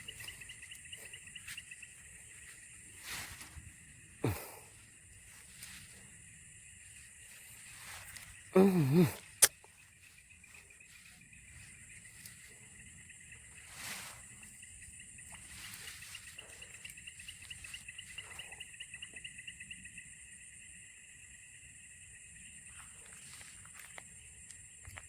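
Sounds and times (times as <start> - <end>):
fast pulsing insect call: 0.0 - 25.0
insects chirring: 0.0 - 25.0.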